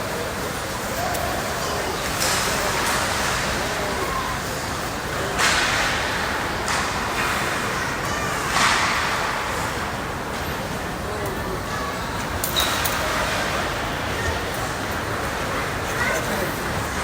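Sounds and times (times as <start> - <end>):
rink background noise: 0.0 - 17.0.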